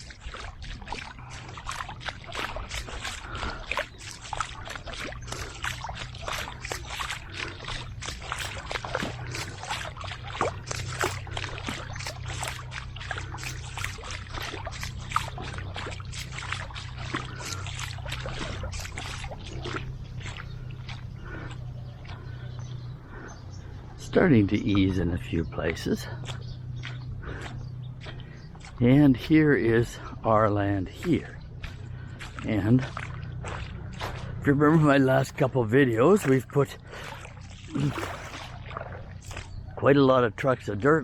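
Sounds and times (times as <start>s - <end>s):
footsteps splashing through water: 0.0s - 41.0s
steady low rumble: 0.0s - 41.0s.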